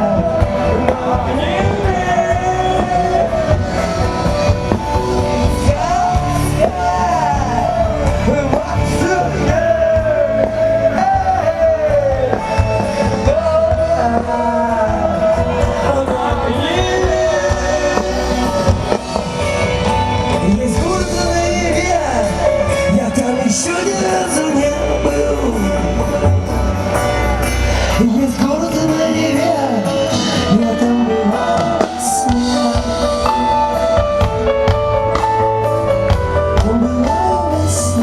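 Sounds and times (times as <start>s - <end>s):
lead vocal singing: 0.0s - 38.0s
rock band playing live: 0.0s - 38.0s.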